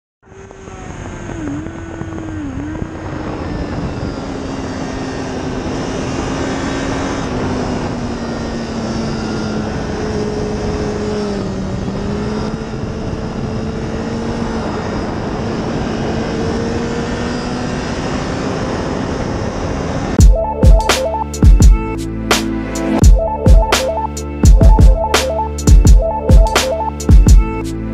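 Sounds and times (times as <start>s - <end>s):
engine drone: 0.2s - 27.9s.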